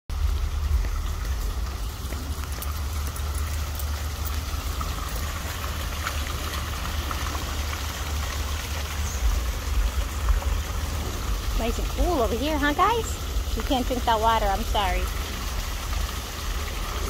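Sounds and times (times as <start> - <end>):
low rumble: 0.1 - 17.0
water rushing over rocks: 0.1 - 17.0.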